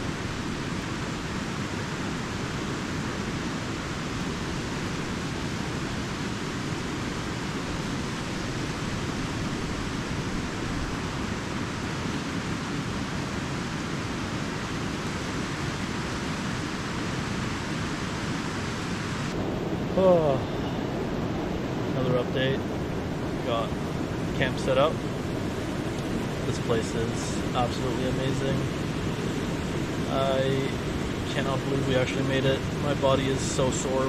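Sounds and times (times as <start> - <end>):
river rushing: 0.0 - 34.0.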